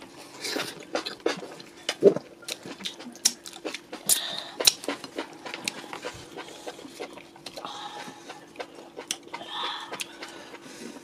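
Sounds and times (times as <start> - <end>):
wet chewing and lip-smacking: 0.5 - 10.6.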